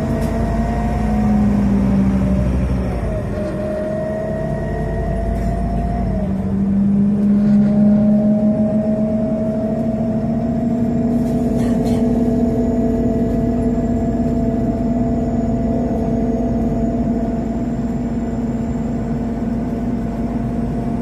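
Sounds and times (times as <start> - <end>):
bus engine whine: 0.0 - 21.0.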